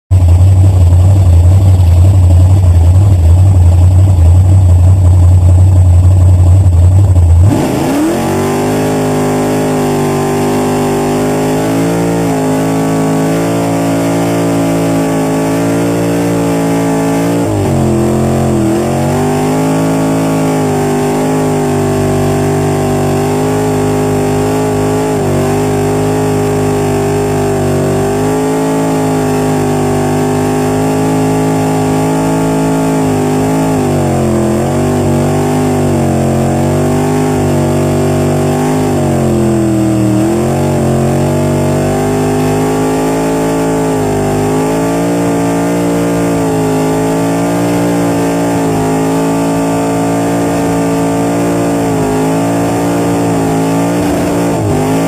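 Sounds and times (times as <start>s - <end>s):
car engine revving: 0.1s - 55.0s.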